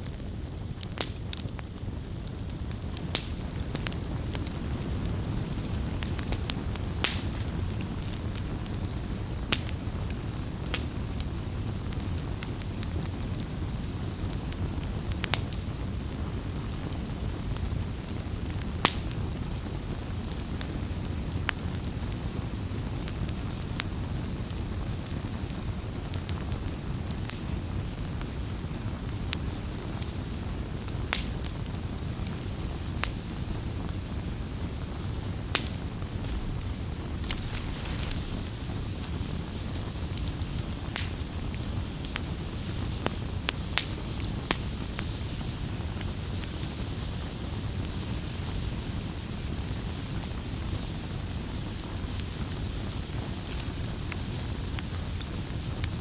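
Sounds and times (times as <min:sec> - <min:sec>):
campfire burning: 0:00.0 - 0:56.0.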